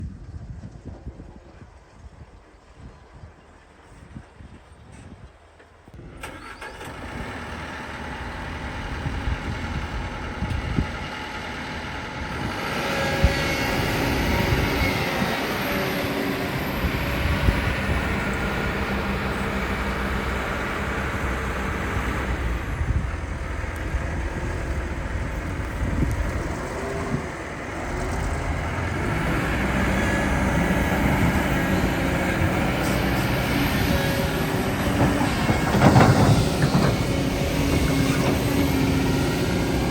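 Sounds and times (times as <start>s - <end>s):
excavator diesel engine running: 6.1s - 39.9s.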